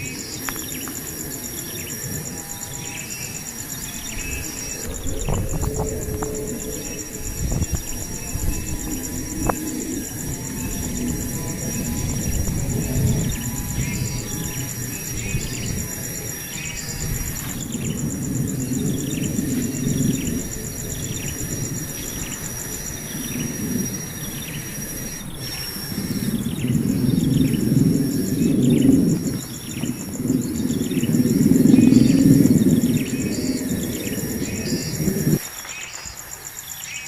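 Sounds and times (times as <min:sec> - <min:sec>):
insects trilling: 0:00.0 - 0:37.0
low rumbling noise: 0:03.5 - 0:35.4.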